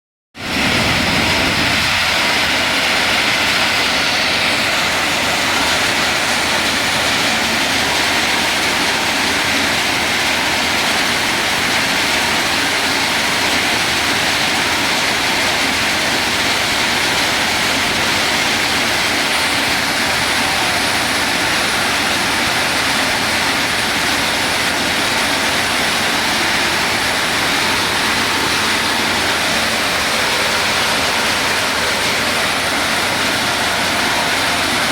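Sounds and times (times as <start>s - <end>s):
sand washing machine running: 0.4s - 34.9s.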